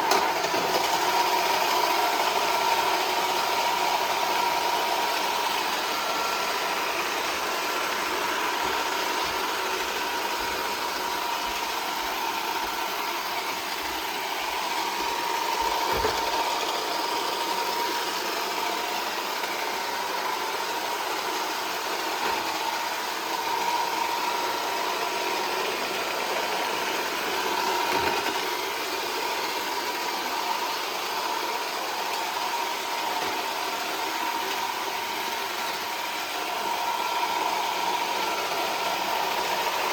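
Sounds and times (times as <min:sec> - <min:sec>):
robot vacuum whirring: 0:00.0 - 0:39.9.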